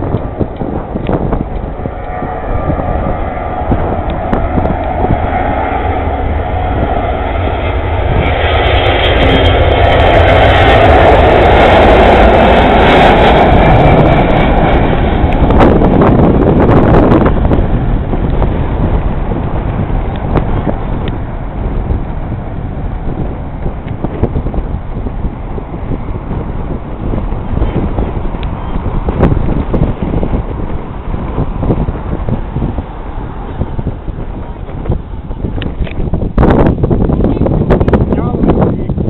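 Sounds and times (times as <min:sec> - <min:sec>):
jet airliner roaring past: 0:00.0 - 0:39.0.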